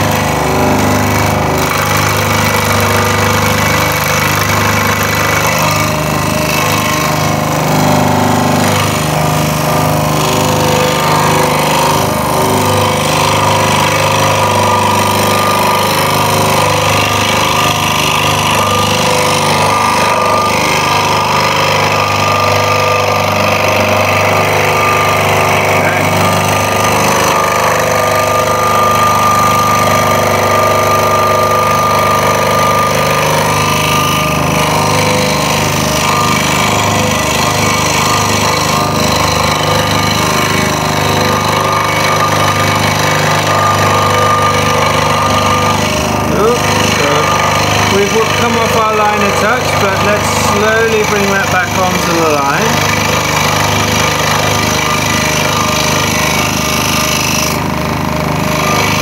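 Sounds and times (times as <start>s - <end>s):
scroll saw cutting wood: 0.0s - 59.0s.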